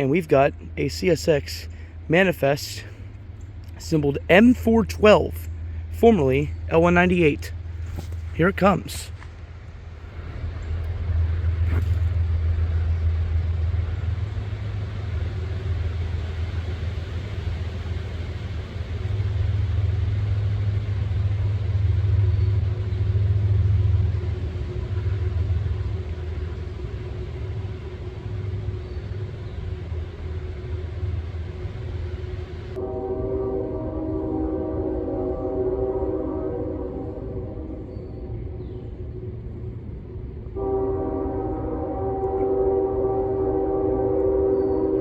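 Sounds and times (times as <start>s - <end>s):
faint engine tone: 0.0s - 43.8s
distant freight train rumble: 0.0s - 45.0s.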